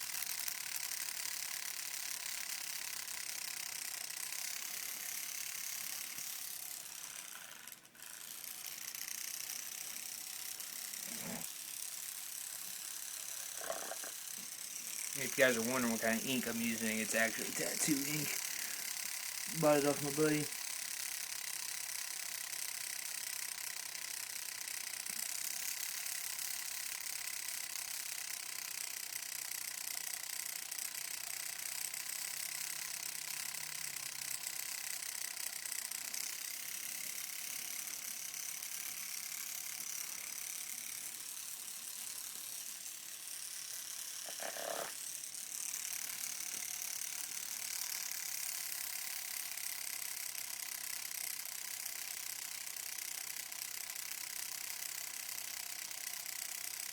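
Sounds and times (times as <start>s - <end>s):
tattoo machine buzzing: 0.0s - 56.9s.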